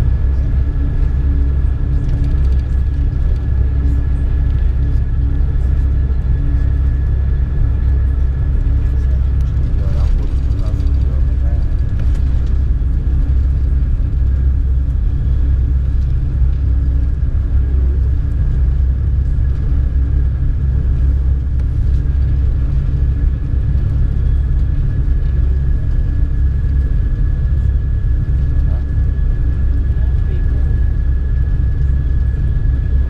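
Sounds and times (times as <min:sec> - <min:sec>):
train rumble inside coach: 0:00.0 - 0:33.0.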